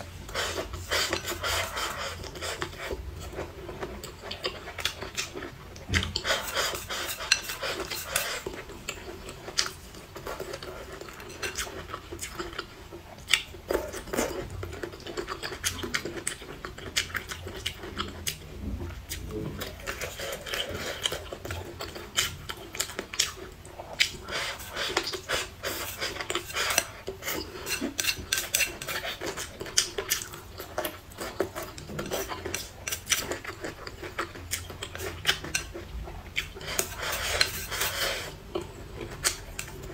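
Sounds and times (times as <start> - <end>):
eating sounds: 0.0 - 39.9.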